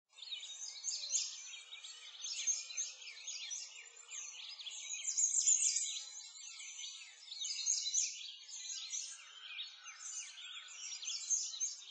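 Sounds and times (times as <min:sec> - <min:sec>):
songbirds chirping and trilling: 0:00.1 - 0:11.9.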